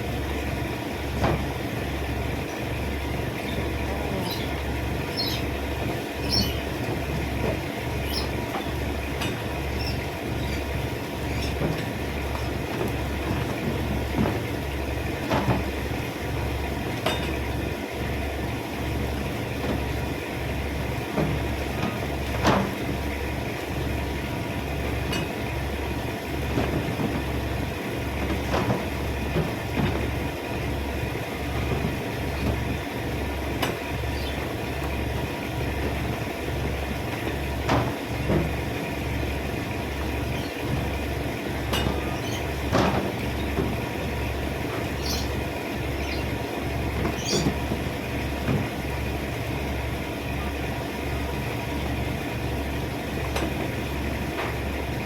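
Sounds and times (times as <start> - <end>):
pulsing machinery rumble: 0.0 - 55.0.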